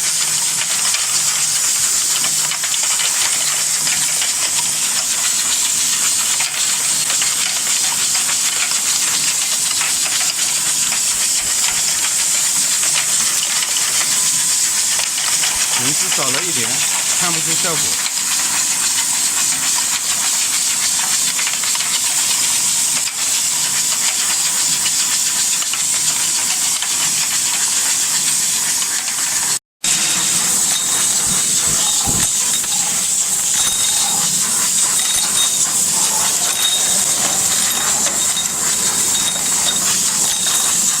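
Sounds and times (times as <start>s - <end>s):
machine hissing: 0.0s - 41.0s.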